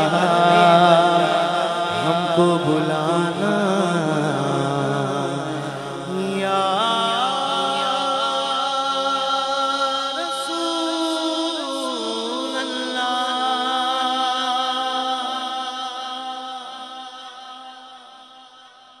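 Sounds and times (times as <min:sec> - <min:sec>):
unaccompanied vocal chanting: 0:00.0 - 0:18.9.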